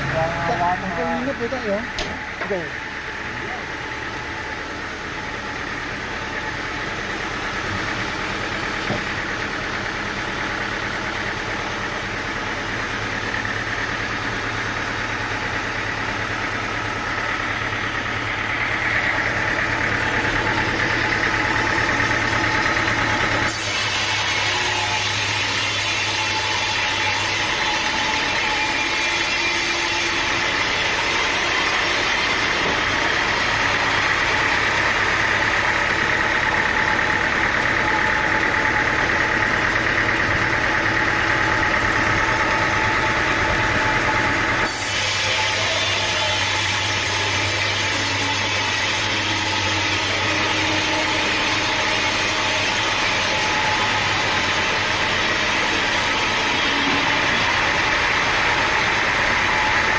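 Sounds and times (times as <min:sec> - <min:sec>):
engine-driven sawmill running: 0:00.0 - 0:59.9.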